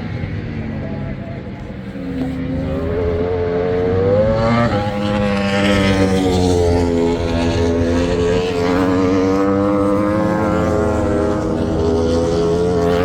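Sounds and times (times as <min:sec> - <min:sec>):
high engine whine: 0:00.0 - 0:13.0
superbike engines at high revs: 0:00.0 - 0:13.0.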